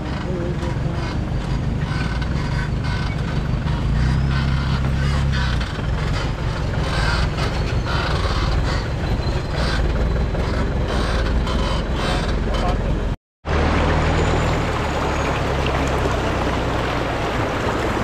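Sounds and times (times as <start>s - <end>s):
diesel engine running low: 0.0s - 18.0s.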